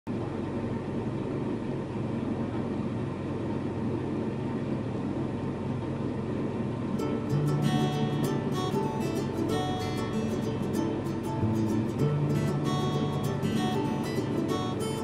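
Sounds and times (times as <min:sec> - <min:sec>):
boat engine humming: 0:00.1 - 0:15.0.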